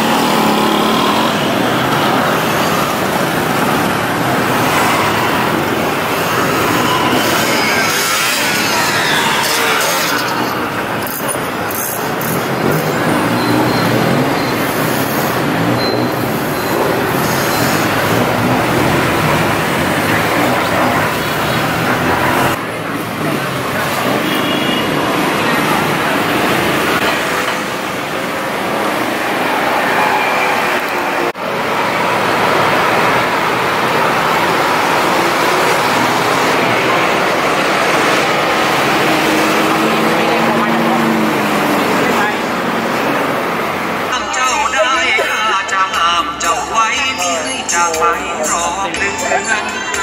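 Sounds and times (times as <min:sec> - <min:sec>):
bus engine running: 0:00.0 - 0:07.9, 0:10.3 - 0:29.8, 0:30.8 - 0:49.4
traffic and road noise: 0:00.0 - 0:50.0.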